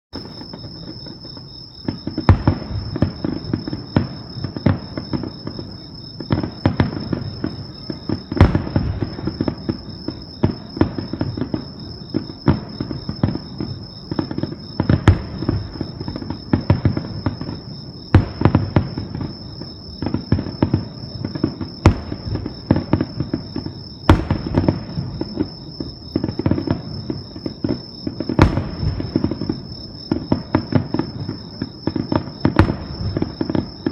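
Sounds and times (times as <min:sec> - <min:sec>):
fireworks booming and crackling: 0:00.2 - 0:33.9
loud firework bangs: 0:01.8 - 0:33.9.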